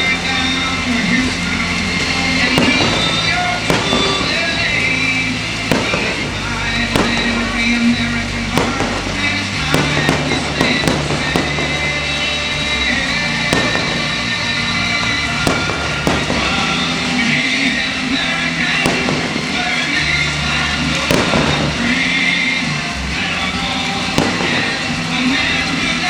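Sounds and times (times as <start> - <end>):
fireworks bangs: 0.0 - 26.0
loud music: 0.0 - 26.0.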